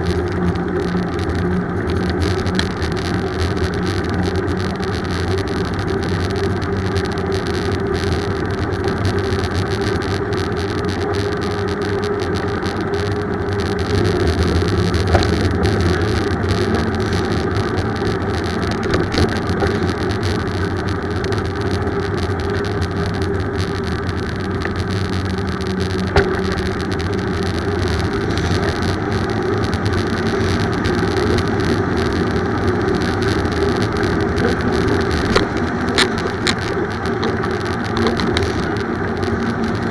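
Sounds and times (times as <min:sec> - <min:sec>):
bicycle road rumble: 0:00.0 - 0:39.9.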